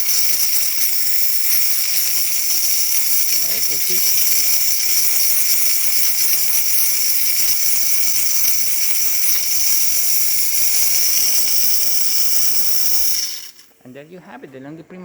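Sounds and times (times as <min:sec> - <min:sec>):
espresso machine steam hissing: 0:00.0 - 0:13.7.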